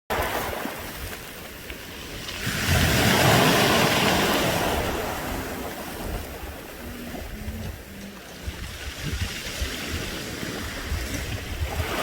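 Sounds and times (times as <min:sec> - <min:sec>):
wave on pebble beach: 0:00.1 - 0:12.0.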